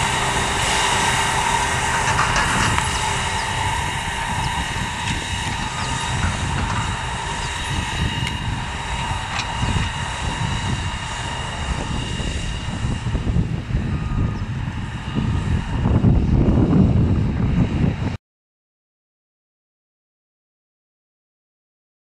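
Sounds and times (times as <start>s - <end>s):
tractor engine running under load: 0.0s - 18.1s.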